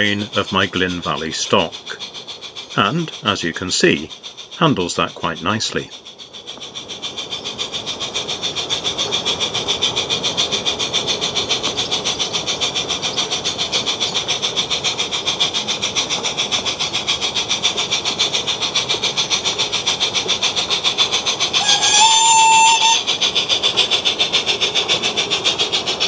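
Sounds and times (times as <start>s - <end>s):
model locomotive hissy chuffing: 0.0s - 26.0s.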